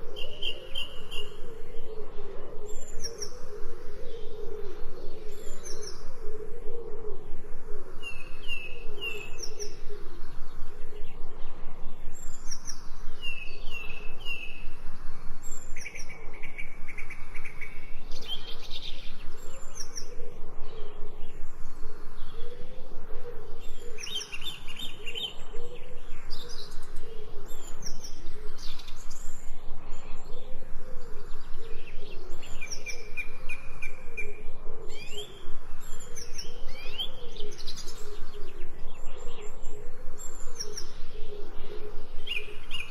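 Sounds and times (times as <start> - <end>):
birds chirping and singing: 0.0 - 7.3, 8.0 - 42.9.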